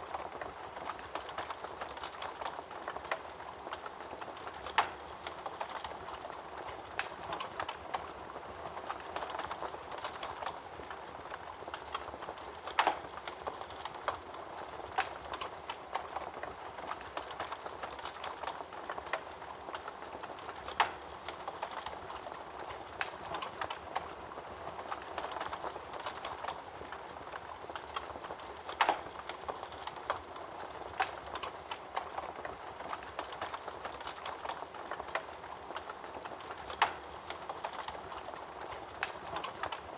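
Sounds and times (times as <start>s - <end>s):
fire crackling: 0.0s - 39.9s
fire popping: 0.0s - 39.9s.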